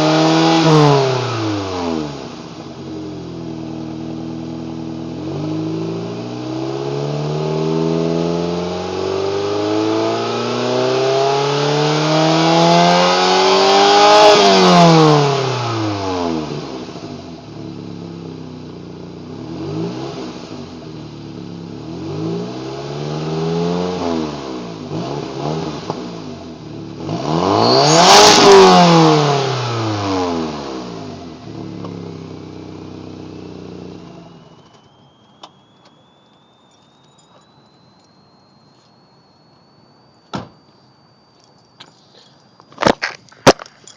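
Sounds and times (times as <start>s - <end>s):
car engine revving: 0.0s - 40.5s.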